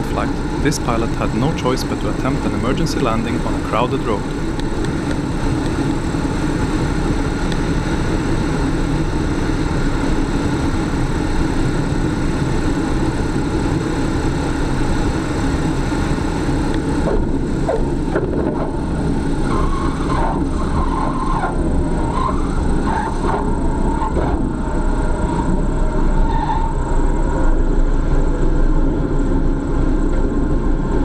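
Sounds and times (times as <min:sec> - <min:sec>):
vehicle rumble: 0:00.0 - 0:31.0.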